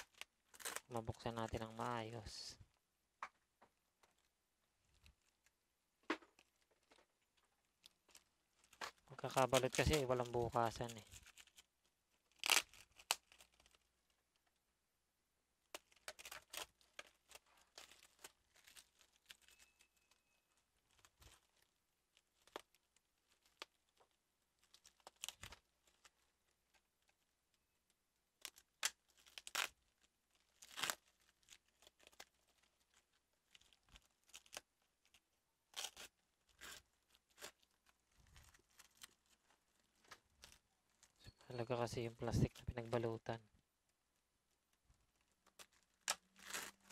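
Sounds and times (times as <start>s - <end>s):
plastic wrap crinkling and tearing: 0.0s - 2.5s, 4.0s - 14.6s, 15.6s - 43.4s, 44.5s - 46.9s.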